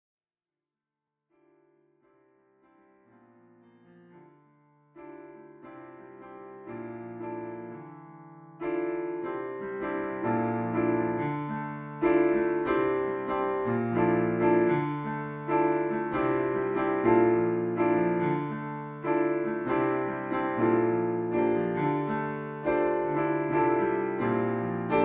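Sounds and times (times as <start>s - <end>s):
solo bluesy piano: 2.0s - 25.0s.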